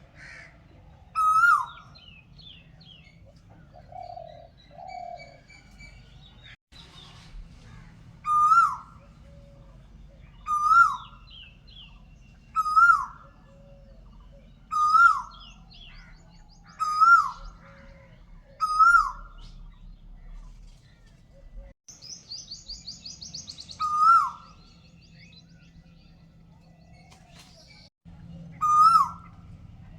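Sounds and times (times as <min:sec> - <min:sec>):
birds chirping softly: 0:00.0 - 0:29.9.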